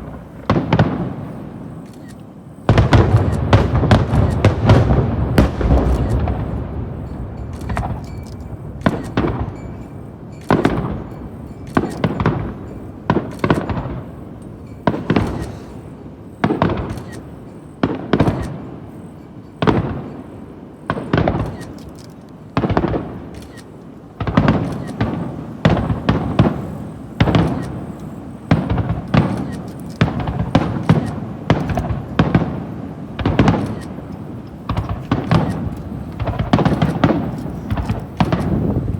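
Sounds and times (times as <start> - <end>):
firework shells booming: 0.0 - 1.8, 2.5 - 38.9.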